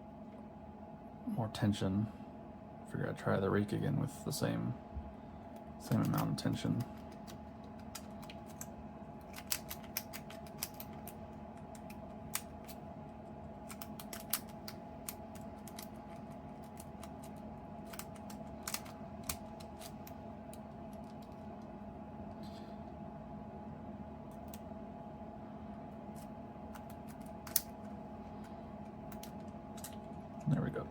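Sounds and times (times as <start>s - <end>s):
low hum: 0.0s - 30.9s.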